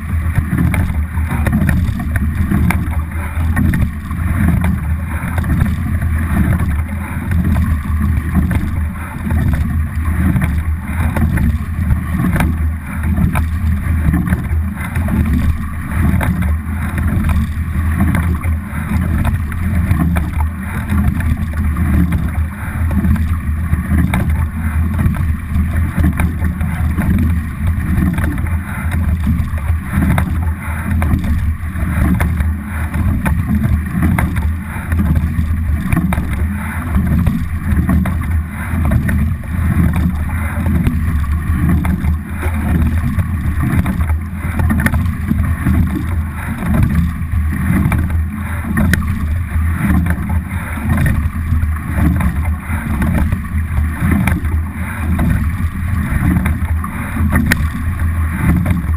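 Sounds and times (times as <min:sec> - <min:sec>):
water rushing along boat hull: 0:00.0 - 0:58.9
wind rumbling on microphone: 0:00.0 - 0:58.9.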